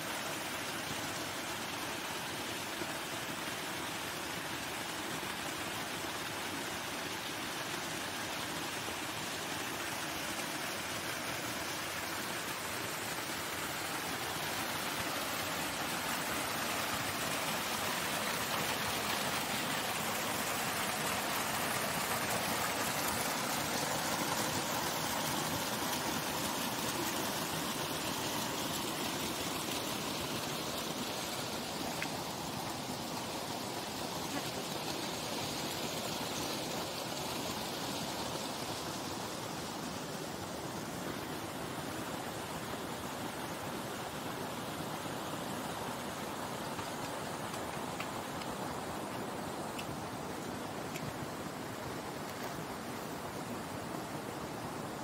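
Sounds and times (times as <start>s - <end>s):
water running down grassy bank: 0.0s - 55.0s
water gushing and splashing: 3.3s - 55.0s.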